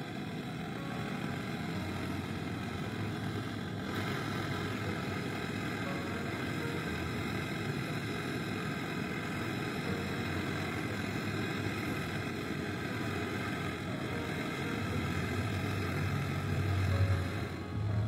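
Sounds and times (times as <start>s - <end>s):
gas torch flame hissing: 0.0s - 18.0s.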